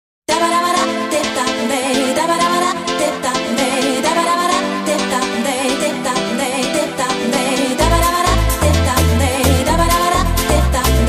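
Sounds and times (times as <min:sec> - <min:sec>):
song with wavering melody: 0:00.3 - 0:11.0.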